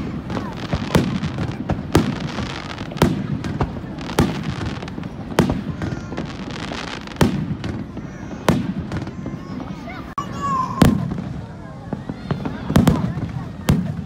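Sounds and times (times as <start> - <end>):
firework shells booming: 0.0 - 9.8, 10.7 - 14.0
firework crackling: 0.0 - 14.0.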